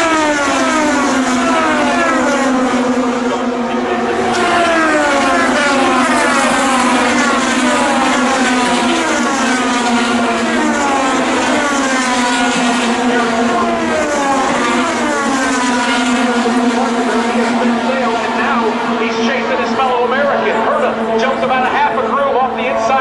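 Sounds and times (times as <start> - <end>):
race cars passing at speed: 0.0 - 23.0.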